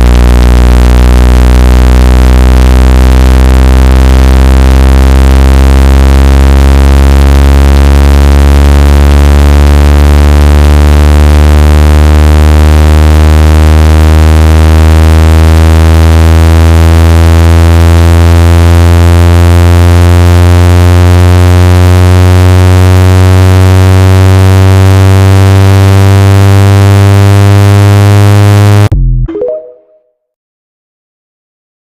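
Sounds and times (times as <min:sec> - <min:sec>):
distorted low buzzing tone: 0:00.0 - 0:29.3.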